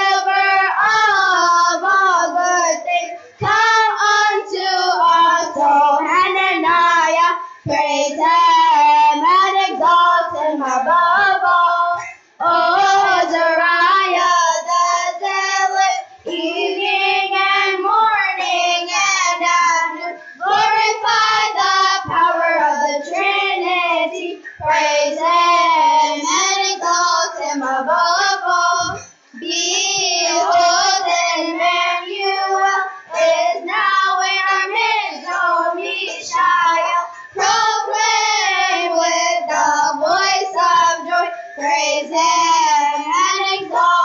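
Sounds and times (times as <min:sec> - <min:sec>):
children's choir singing: 0:00.0 - 0:44.0.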